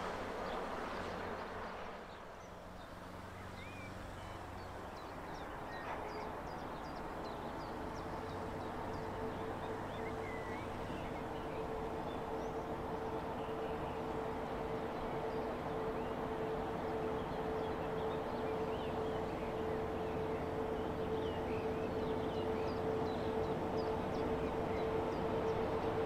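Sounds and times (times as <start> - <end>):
electric locomotive hum: 0.0 - 26.0
train low rumble: 0.0 - 26.0.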